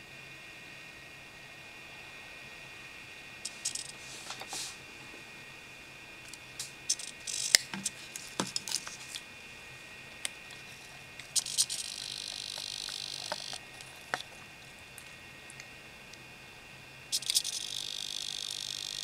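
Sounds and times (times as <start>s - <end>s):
high whirring hiss: 0.0s - 19.0s.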